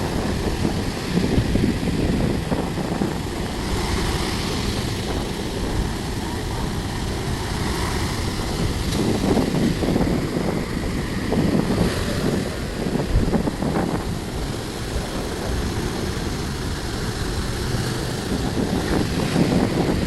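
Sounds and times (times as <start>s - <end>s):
sea waves washing on beach: 0.0s - 20.0s
wind buffeting microphone: 0.0s - 20.0s.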